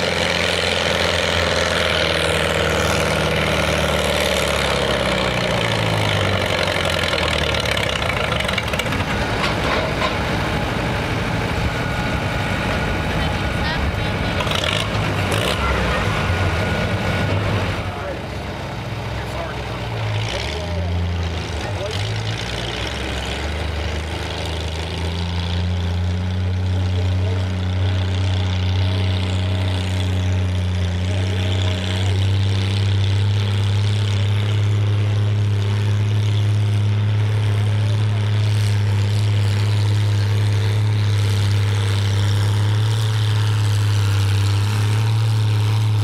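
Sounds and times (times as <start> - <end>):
tractor engine drone: 0.0 - 46.0.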